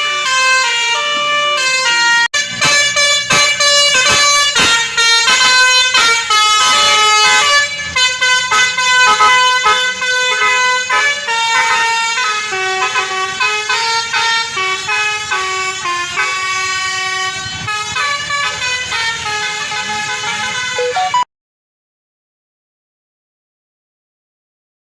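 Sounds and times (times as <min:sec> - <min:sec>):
musical air horn playing a tune: 0:00.0 - 0:21.3.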